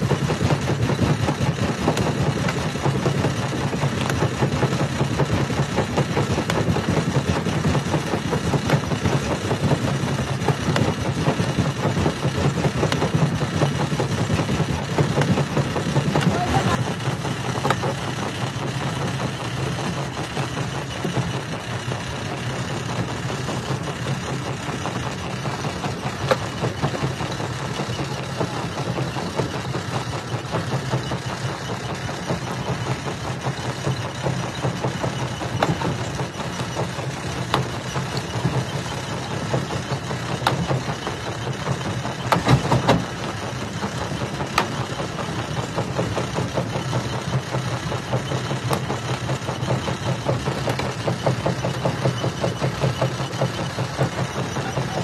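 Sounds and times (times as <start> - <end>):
rock crusher drone: 0.0 - 55.0.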